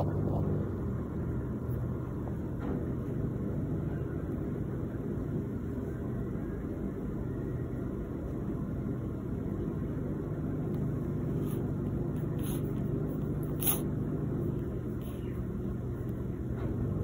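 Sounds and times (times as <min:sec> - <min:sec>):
faint hum: 0:00.0 - 0:17.0
low background rumble: 0:00.0 - 0:17.0.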